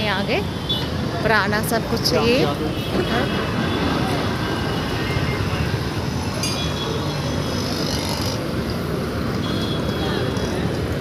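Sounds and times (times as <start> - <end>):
road traffic engines: 0.0 - 11.0.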